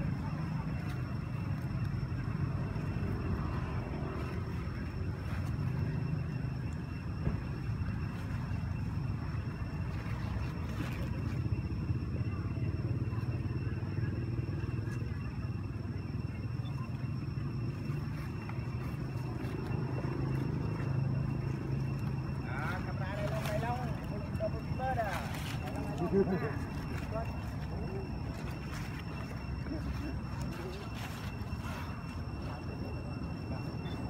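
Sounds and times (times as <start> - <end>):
faint high whine: 0.0 - 34.0
low engine-like rumble: 0.0 - 34.0.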